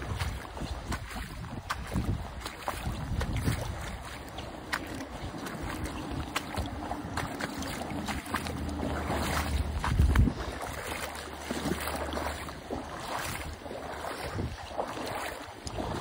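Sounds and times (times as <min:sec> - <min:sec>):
footsteps splashing through water: 0:00.0 - 0:16.0
wind rumbling on microphone: 0:00.0 - 0:16.0.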